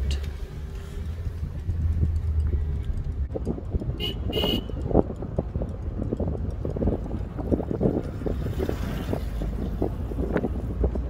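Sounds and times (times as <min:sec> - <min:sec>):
car engine and road rumble: 0:00.0 - 0:11.0
wind buffeting microphone: 0:00.3 - 0:11.0.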